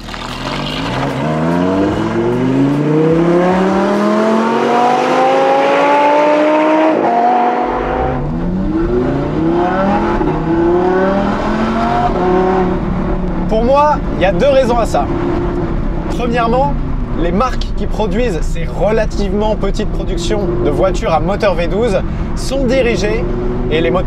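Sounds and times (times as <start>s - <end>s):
car engine accelerating hard: 0.8s - 24.0s.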